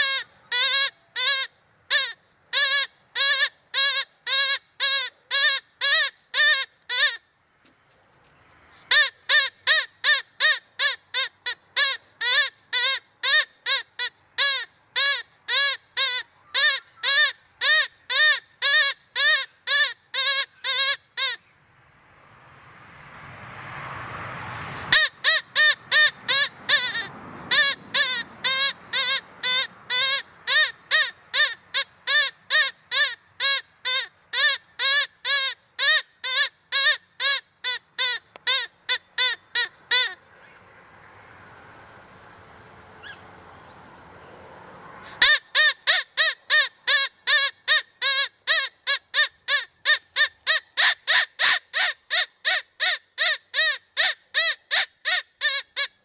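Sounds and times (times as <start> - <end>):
rabbit squealing calls: 0.0 - 7.2, 8.8 - 21.4, 24.8 - 40.6, 45.0 - 56.0.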